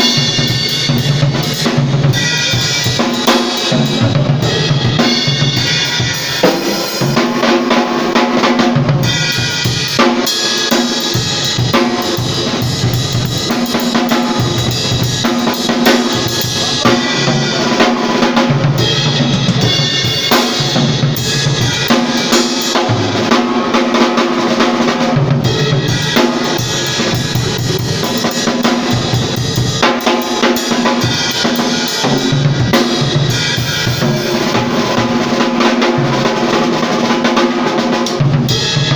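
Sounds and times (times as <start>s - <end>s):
drum kit groove: 0.0s - 38.9s
live band music: 0.0s - 38.9s.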